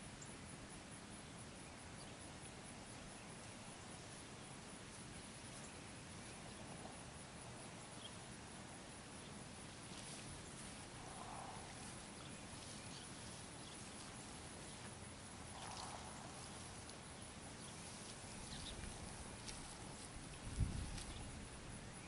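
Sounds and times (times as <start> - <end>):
steady low hiss: 0.0 - 22.0.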